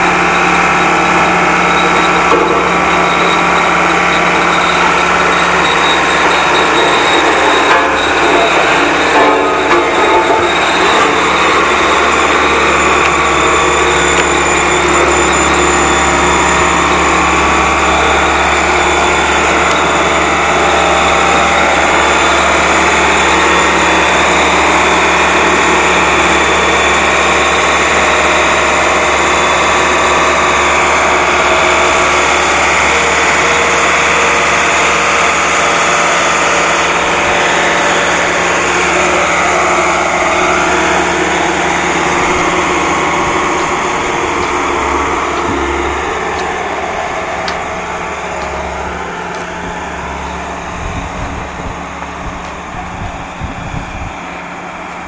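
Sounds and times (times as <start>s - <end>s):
road roller diesel engine: 0.0s - 55.0s.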